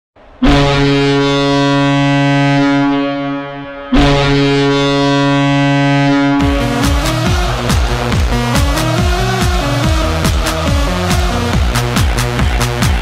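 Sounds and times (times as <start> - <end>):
arena goal horn blasts: 0.4 - 12.0.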